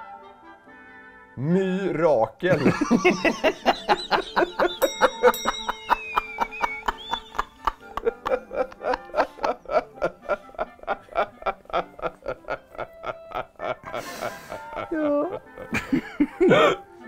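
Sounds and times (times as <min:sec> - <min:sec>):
men laughing hard: 0:02.5 - 0:17.0.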